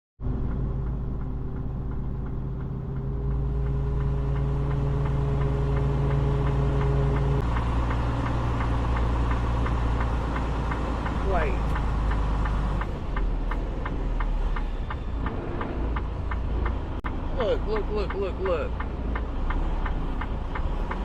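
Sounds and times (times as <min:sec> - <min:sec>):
diesel truck engine running: 0:00.2 - 0:21.0
regular engine ticking: 0:00.2 - 0:21.0.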